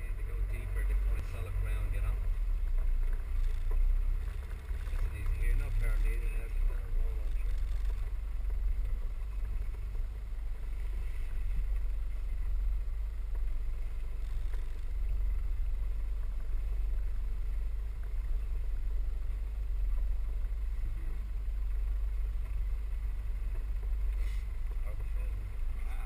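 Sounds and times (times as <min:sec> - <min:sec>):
vehicle engine rumble from inside: 0:00.0 - 0:26.0.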